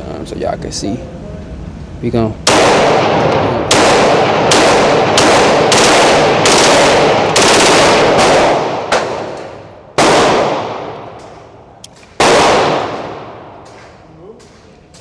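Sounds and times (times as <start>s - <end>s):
pistol shots echoing: 2.5s - 14.5s.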